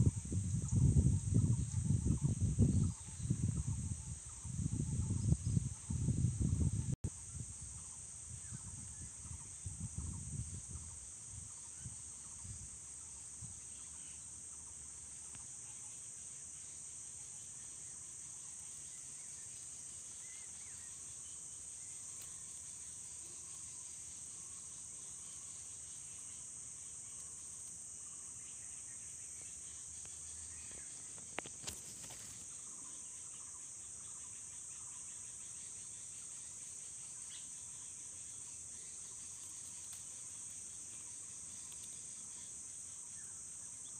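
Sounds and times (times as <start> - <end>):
high-pitched insect trilling: 0.0 - 43.9.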